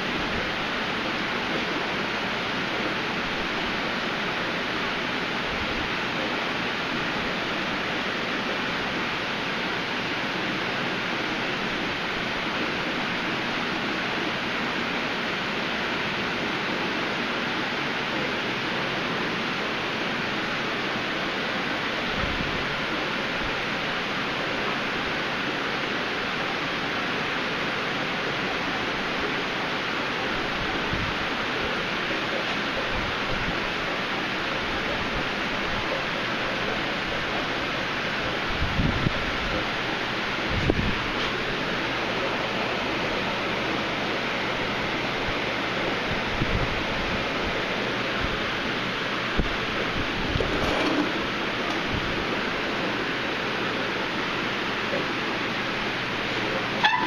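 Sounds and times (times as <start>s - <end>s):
aquarium water rushing and splashing: 0.0s - 57.0s.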